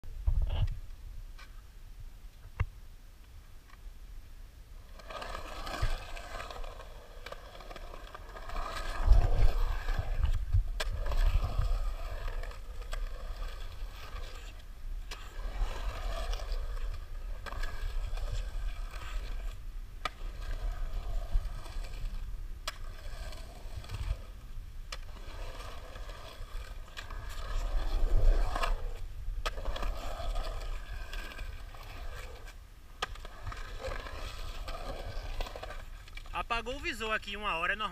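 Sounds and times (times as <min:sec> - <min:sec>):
skateboard wheels rolling on concrete: 0:00.0 - 0:37.9.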